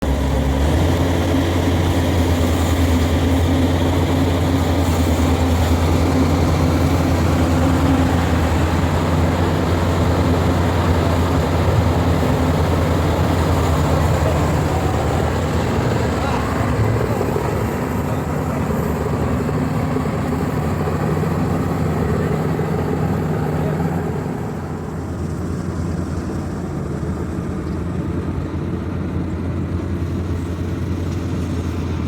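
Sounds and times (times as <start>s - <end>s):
combine harvester engine hum: 0.0s - 32.0s.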